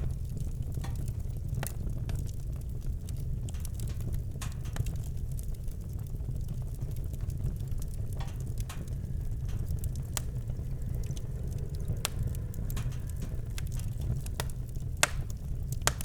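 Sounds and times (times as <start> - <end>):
campfire crackling: 0.0 - 16.0
low rumble of fire: 0.0 - 16.0.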